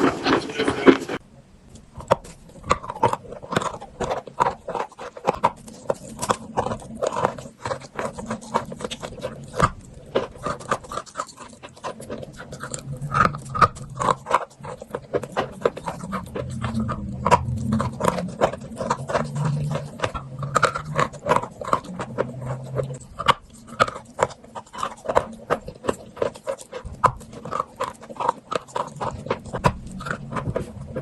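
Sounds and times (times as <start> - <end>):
wet mouth sounds: 1.8 - 31.0.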